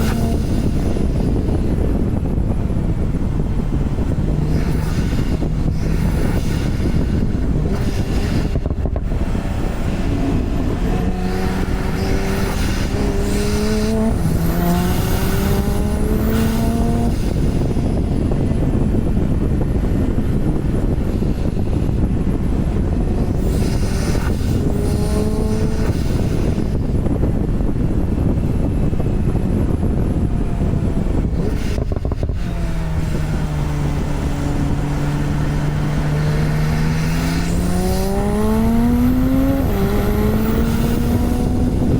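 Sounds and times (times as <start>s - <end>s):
car engine accelerating: 0.0s - 41.9s
road and wind noise: 0.0s - 41.9s.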